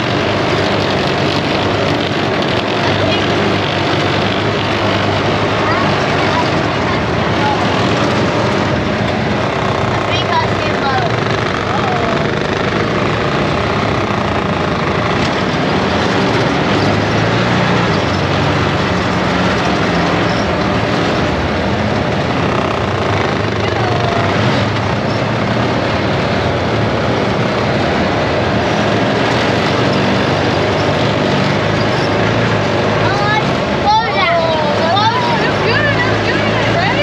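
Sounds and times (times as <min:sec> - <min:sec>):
atv engine running: 0:00.0 - 0:37.0
loud rushing noise: 0:00.0 - 0:37.0.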